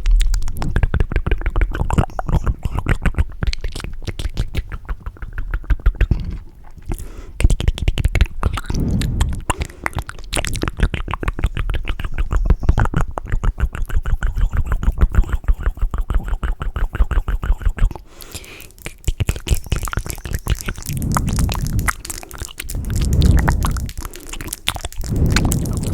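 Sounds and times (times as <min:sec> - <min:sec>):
wet mouth clicks and smacks: 0:00.0 - 0:25.9.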